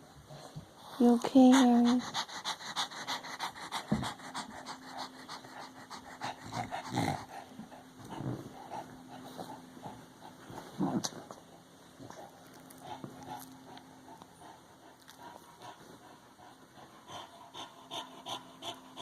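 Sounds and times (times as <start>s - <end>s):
dog panting hard: 0.3s - 10.8s, 12.1s - 19.0s.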